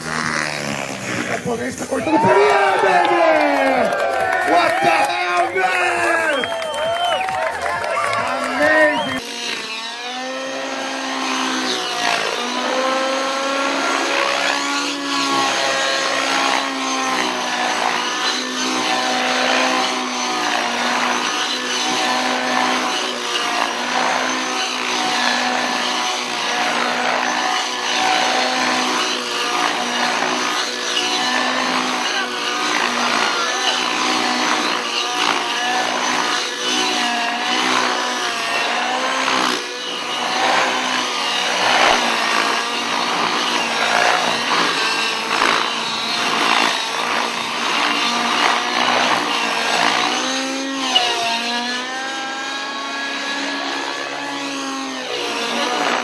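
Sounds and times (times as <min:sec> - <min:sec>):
model helicopter engine whine: 0:00.0 - 0:56.0.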